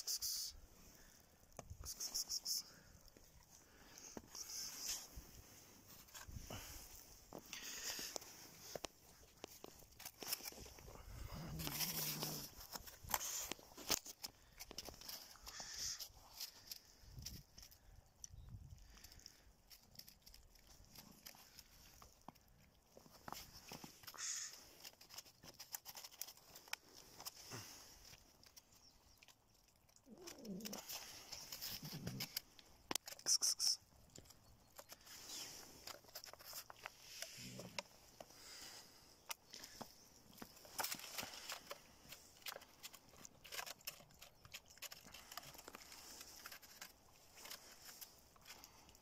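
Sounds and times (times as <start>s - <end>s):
cats chewing and lapping: 0.1s - 49.0s.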